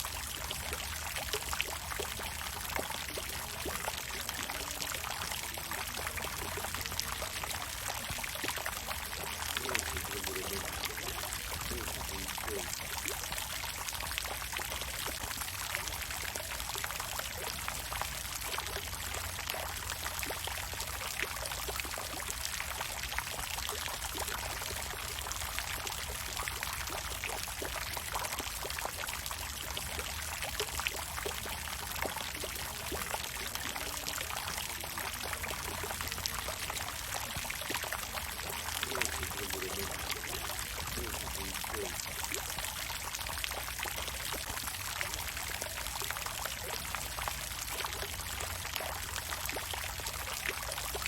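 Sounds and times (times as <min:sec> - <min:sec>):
water fountain splashing: 0:00.0 - 0:51.0.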